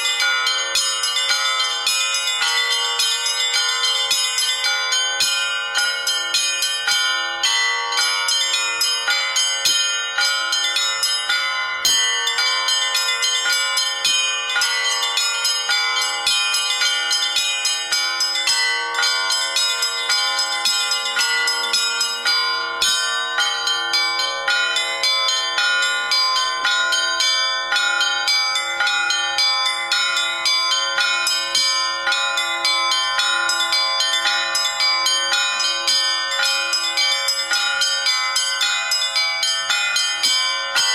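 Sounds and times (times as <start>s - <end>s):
bells pealing: 0.0s - 40.9s.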